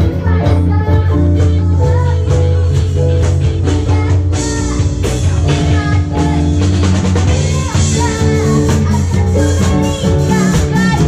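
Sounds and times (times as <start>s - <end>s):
electric guitar with bending notes: 0.0s - 11.0s
live pop-funk band: 0.0s - 11.0s.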